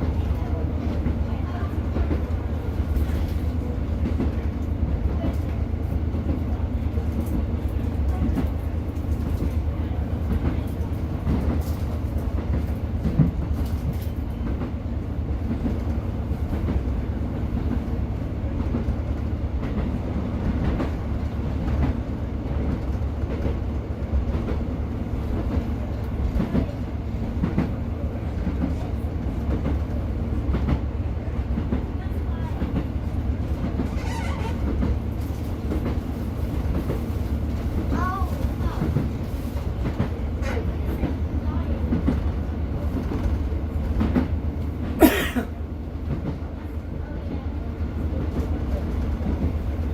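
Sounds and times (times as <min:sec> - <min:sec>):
train diesel engine and wheels rumbling: 0:00.0 - 0:49.9.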